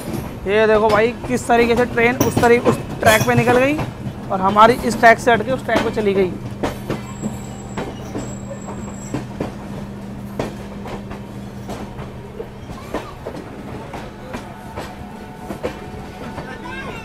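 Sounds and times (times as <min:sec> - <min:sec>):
train wheels clacking over rail joints: 0:00.0 - 0:17.0.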